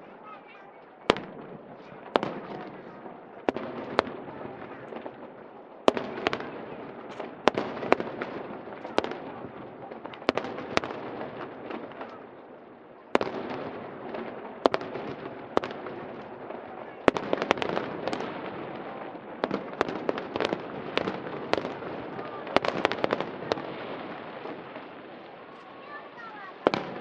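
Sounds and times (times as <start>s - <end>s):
fireworks bangs: 0.0s - 27.0s
fireworks crackle: 0.0s - 27.0s.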